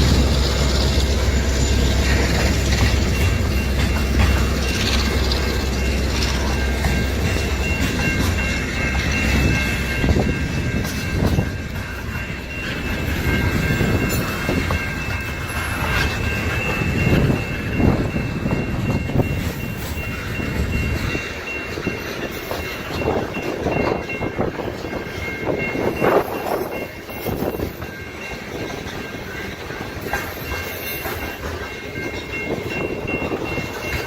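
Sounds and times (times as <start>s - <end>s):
freight train rumble: 0.0s - 34.0s
train wheels clacking over rail joints: 0.0s - 34.0s.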